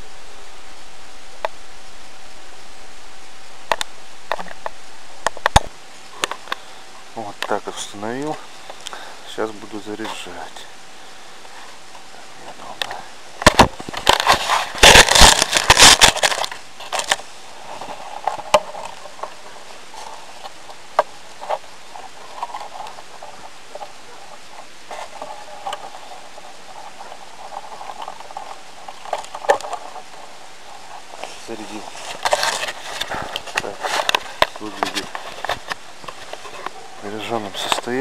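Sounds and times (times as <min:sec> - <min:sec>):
crackling and rustling of net: 0:03.7 - 0:38.0.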